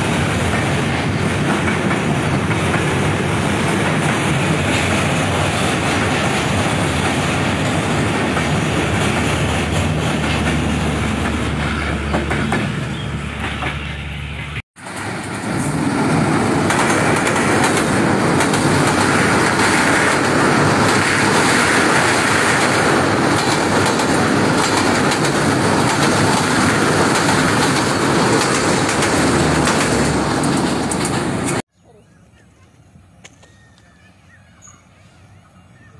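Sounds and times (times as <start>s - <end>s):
train wheels on rails: 0.0s - 31.6s.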